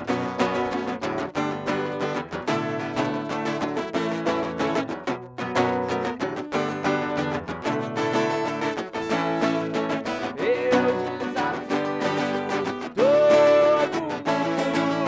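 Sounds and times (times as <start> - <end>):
band playing live: 0.0 - 15.0
strummed guitar: 0.0 - 15.0.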